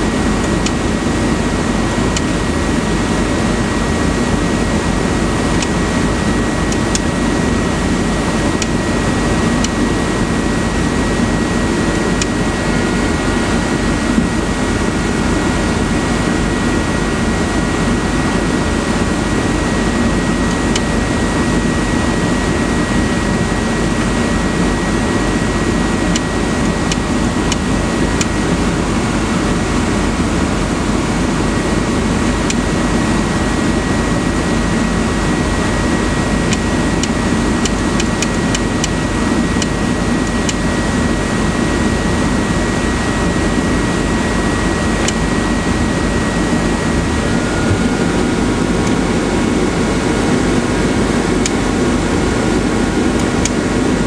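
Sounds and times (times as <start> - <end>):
loud mechanical drone: 0.0 - 54.0
thin constant whine: 0.0 - 54.0.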